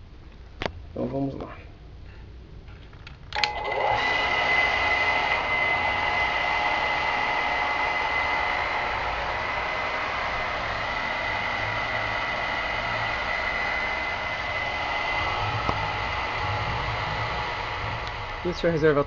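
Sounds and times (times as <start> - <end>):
electric water pump whine: 3.3 - 19.0.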